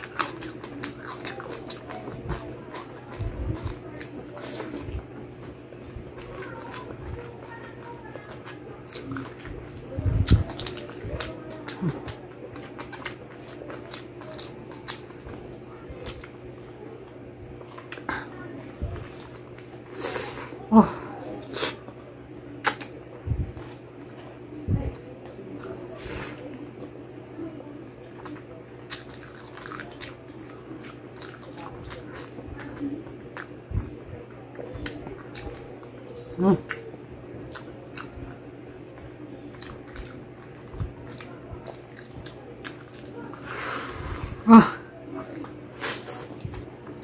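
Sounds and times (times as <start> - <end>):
person chewing crispy food: 0.0 - 20.6, 28.0 - 47.0.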